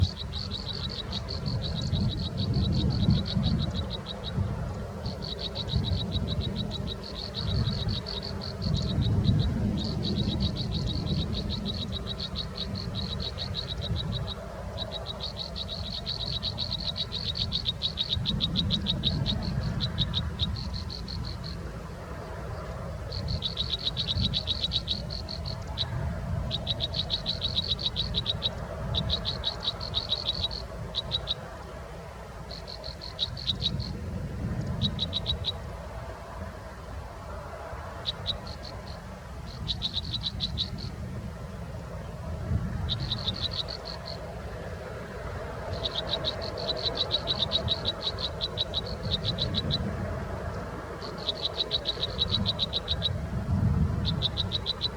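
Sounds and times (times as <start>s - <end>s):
steady low rumble: 0.0s - 54.9s.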